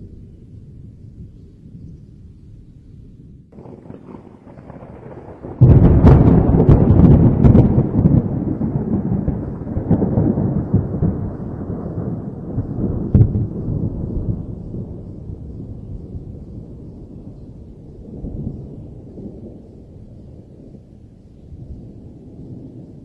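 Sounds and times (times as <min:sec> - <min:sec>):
thunder cracking and rumbling: 0:03.2 - 0:23.0.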